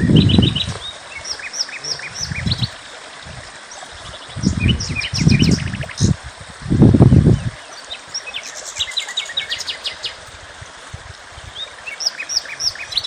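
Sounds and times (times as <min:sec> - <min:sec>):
small birds chirping and trilling: 0:00.0 - 0:06.2, 0:07.2 - 0:10.3, 0:11.3 - 0:13.0
steady outdoor hiss: 0:00.0 - 0:13.0.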